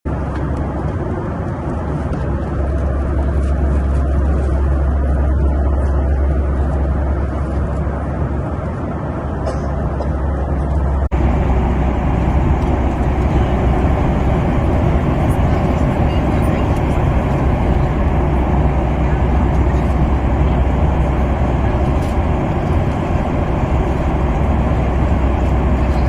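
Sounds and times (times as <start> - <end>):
aircraft cabin engine roar: 0.1 - 26.0
low hum: 0.1 - 26.0.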